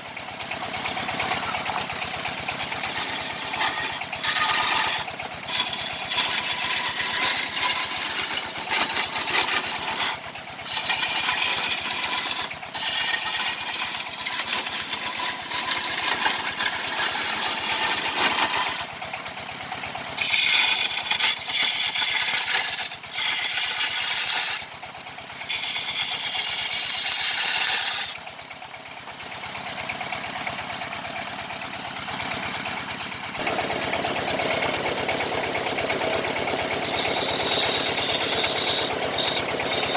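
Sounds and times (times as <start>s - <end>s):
lathe motor hum: 0.0s - 39.9s
chisel rasping on spinning wood: 0.4s - 19.0s, 20.2s - 28.3s, 32.2s - 39.9s.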